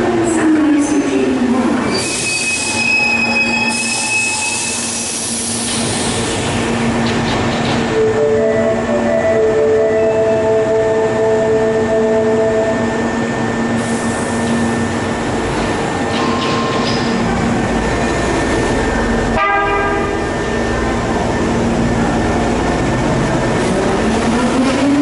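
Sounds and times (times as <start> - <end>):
train equipment hum: 0.0 - 25.0
train pulling away rumble: 1.6 - 25.0.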